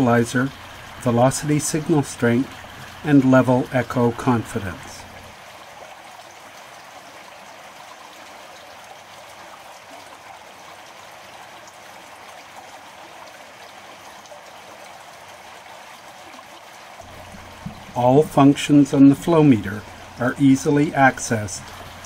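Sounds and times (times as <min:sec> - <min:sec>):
water rushing through culvert: 0:00.0 - 0:22.0.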